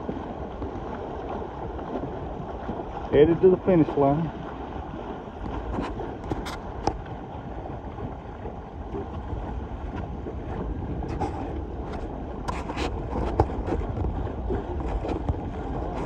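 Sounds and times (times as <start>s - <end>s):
water washing: 0.0s - 16.0s
wind rumbling on microphone: 0.0s - 16.0s.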